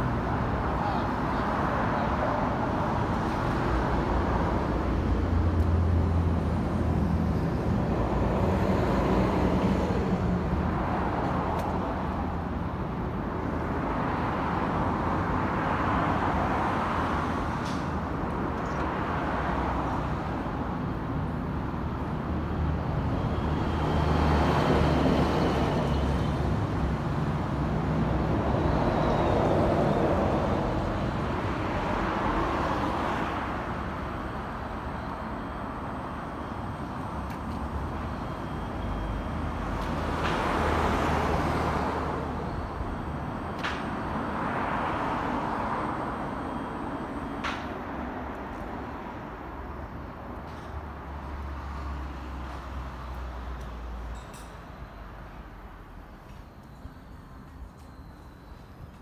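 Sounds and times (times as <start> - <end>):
cars passing by: 0.0 - 59.0
steady low traffic hum: 0.0 - 59.0.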